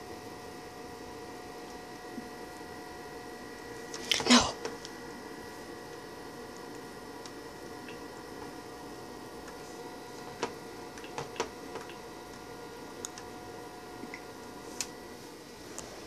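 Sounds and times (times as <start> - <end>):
faint electrical whine: 0.0 - 16.0.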